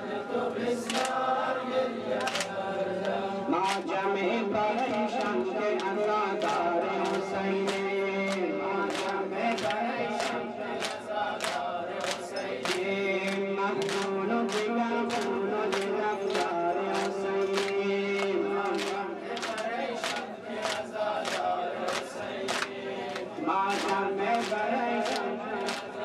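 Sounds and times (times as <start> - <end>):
men chanting a lament: 0.0 - 26.0
sharp rhythmic slaps: 0.5 - 26.0.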